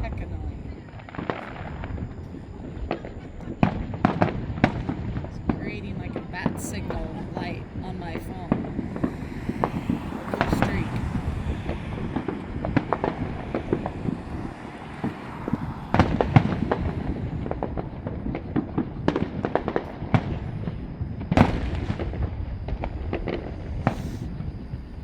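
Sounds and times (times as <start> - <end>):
fireworks popping and banging: 0.0 - 25.0.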